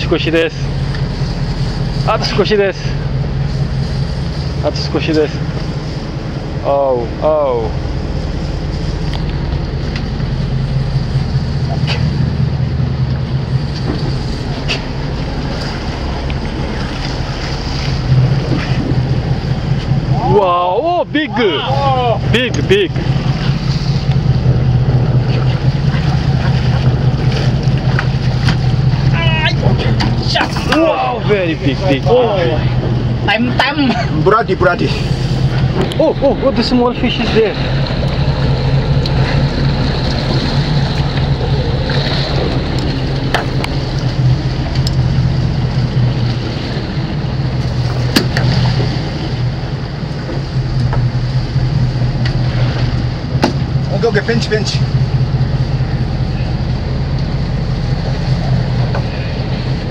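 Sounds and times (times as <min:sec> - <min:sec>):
boat engine humming: 0:00.0 - 0:59.9.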